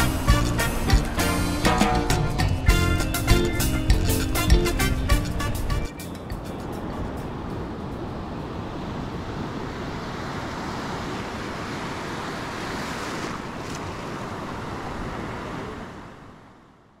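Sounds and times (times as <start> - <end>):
steady rushing noise: 0.0 - 16.1.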